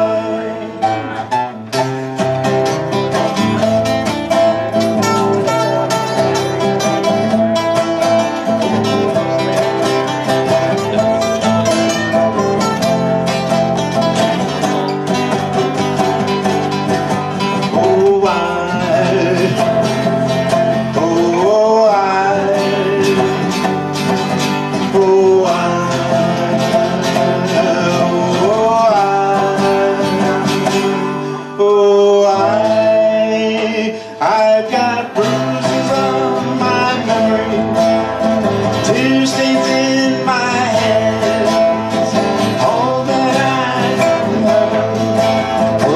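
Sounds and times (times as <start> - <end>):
acoustic guitars playing: 0.0 - 45.9
man singing: 0.0 - 45.9.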